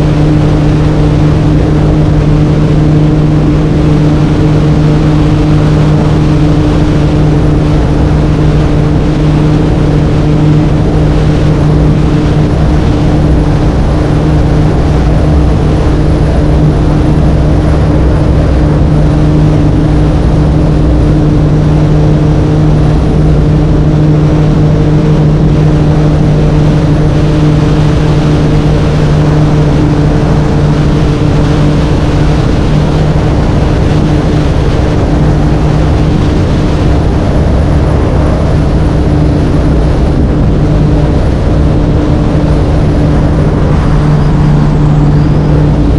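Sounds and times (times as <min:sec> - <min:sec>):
boat engine running: 0:00.0 - 0:45.9
water noise: 0:00.0 - 0:45.9
wind noise: 0:00.0 - 0:45.9.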